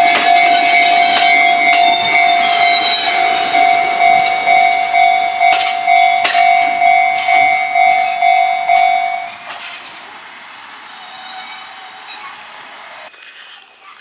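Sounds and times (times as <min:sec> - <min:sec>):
level crossing warning bell: 0:00.0 - 0:13.1
train knocks on crossing: 0:00.0 - 0:13.1.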